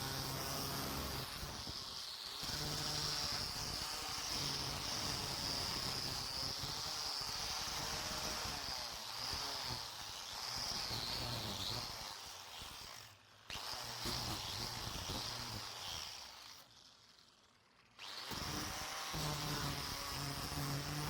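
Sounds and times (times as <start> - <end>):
power tool whining: 0.0 - 21.0.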